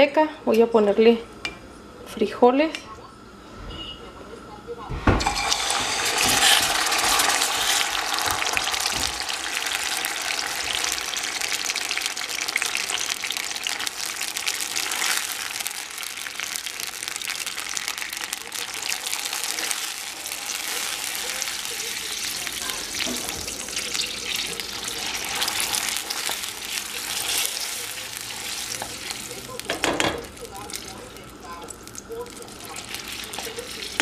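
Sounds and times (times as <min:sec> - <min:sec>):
beans sizzling in hot fat: 0:05.2 - 0:34.0.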